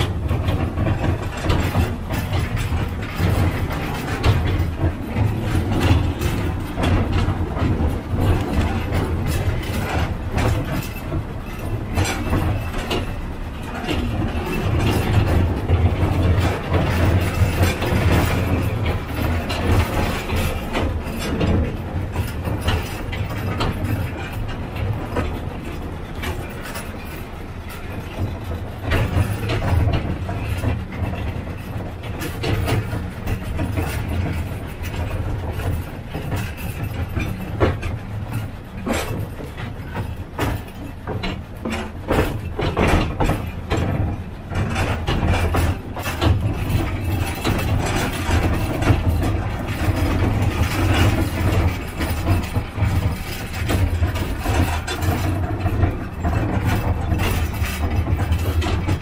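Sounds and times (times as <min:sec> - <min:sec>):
train low drone: 0:00.0 - 0:59.0
wagons rattling: 0:00.0 - 0:59.0
wheels clicking over track: 0:00.0 - 0:59.0.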